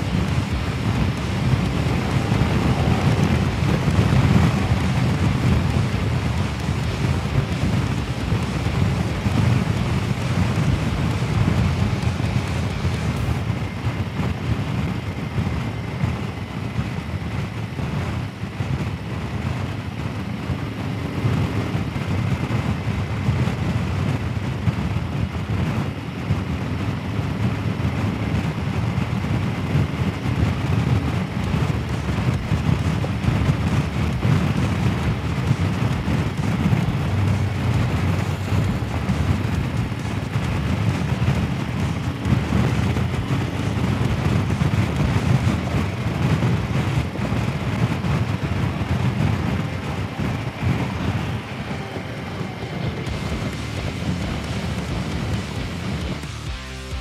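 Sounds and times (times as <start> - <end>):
motorcycle engine and road rumble: 0.0 - 57.0
wind rushing over microphone: 0.0 - 57.0.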